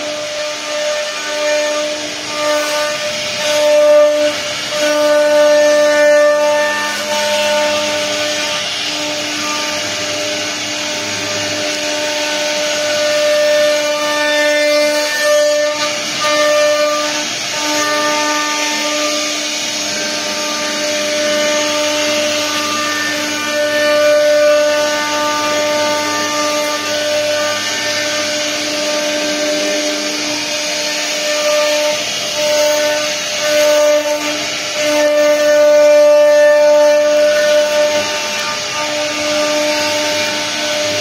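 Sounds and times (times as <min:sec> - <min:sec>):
machine spindle whine: 0:00.0 - 0:41.0.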